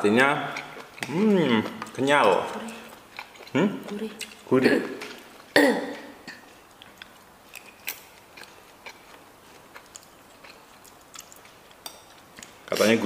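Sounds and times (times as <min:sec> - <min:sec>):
people chewing crunchy food: 0:00.1 - 0:13.0.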